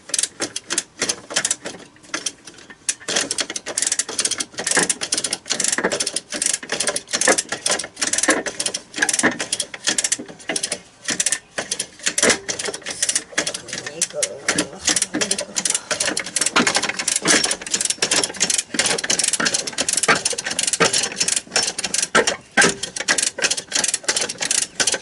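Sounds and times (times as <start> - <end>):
ratchet wrench clicking: 0.1 - 25.0.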